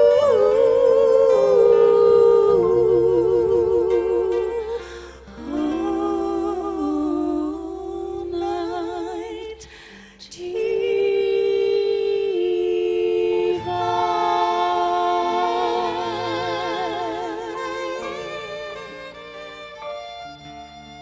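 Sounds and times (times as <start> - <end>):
women singing in harmony: 0.0 - 19.3.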